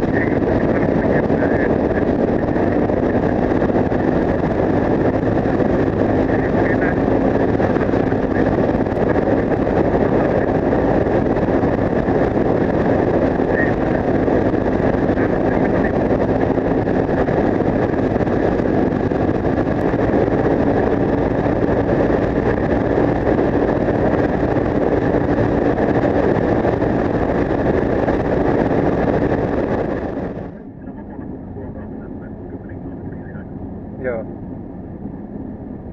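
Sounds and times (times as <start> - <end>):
wind rush on microphone: 0.0 - 35.9.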